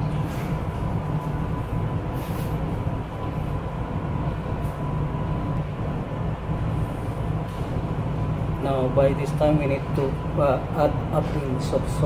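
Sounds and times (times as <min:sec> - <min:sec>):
faint steady whine: 0:00.0 - 0:12.0
ventilation machinery drone: 0:00.0 - 0:12.0.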